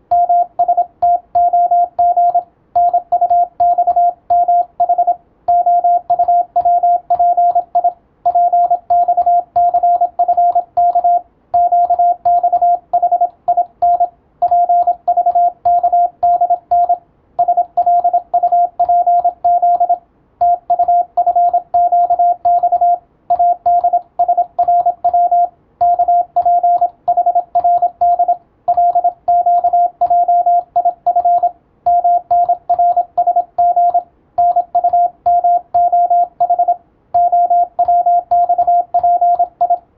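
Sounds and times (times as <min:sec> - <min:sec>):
morse code beeping: 0:00.1 - 0:39.8.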